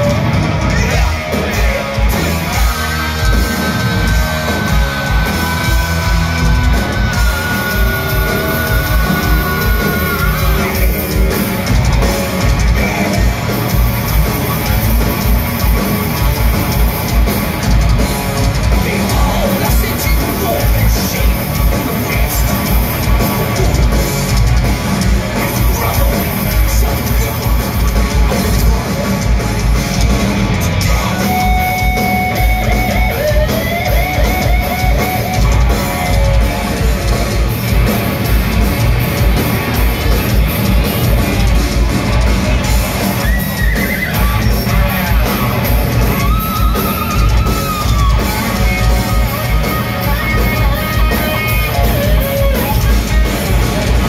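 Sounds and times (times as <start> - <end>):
distorted electric guitars: 0.0 - 54.0
fast drumming: 0.0 - 54.0.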